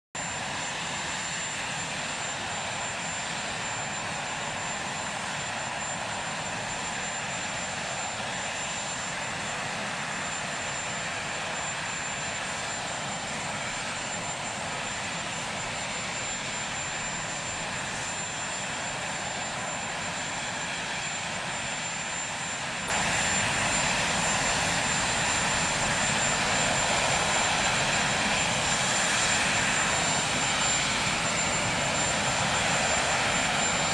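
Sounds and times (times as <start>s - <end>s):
helicopter turbine whine: 0.2s - 33.9s.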